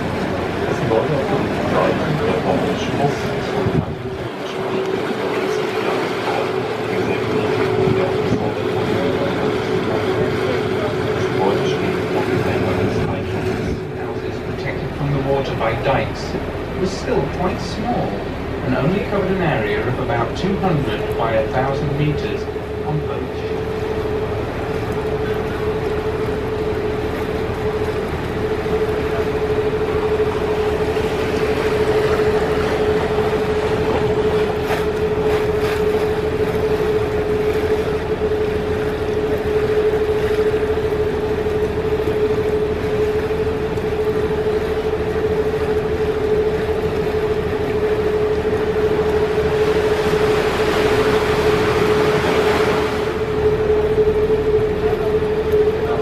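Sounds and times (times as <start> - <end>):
boat motor whining: 0.0 - 56.0
rushing water: 0.0 - 56.0.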